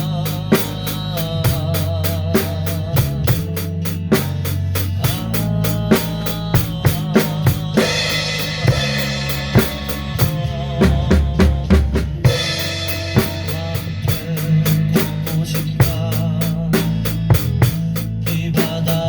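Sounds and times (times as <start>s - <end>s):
drum kit playing pop beat: 0.0s - 19.0s
recorded song music: 0.0s - 19.0s.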